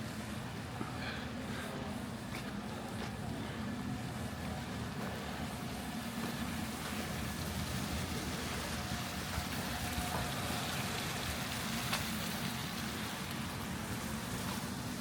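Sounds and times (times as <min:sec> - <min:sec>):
low traffic hum: 0:00.0 - 0:15.0.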